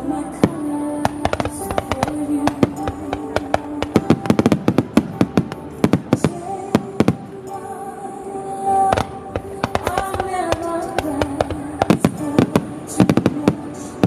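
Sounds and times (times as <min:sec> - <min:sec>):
music: 0:00.0 - 0:14.0
fireworks bangs and crackles: 0:00.4 - 0:07.6, 0:08.9 - 0:14.0.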